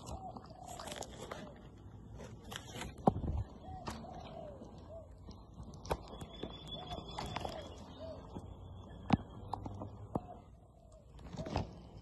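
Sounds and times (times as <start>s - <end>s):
birds calling: 0.0s - 1.9s, 2.7s - 12.0s.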